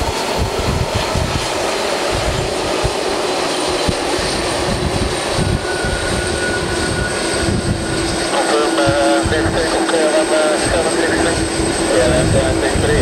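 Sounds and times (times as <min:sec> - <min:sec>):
wind buffeting microphone: 0:00.0 - 0:09.8, 0:10.4 - 0:13.0
jet engine roar with whine: 0:00.0 - 0:13.0.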